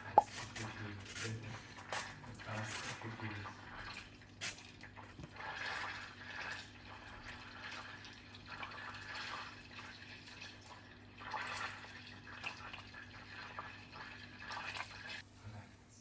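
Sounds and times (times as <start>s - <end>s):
water running from tap: 0.0s - 15.2s.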